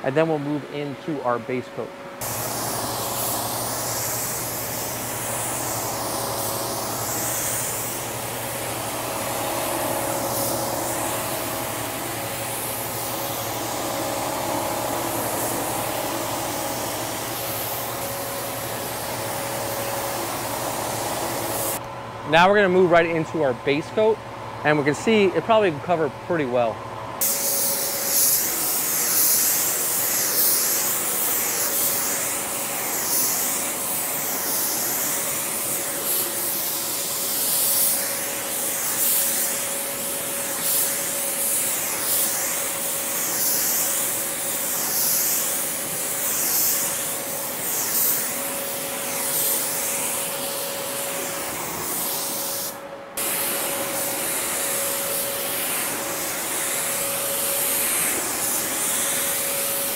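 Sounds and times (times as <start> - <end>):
paint spray gun hissing: 2.2 - 21.8, 27.2 - 59.9.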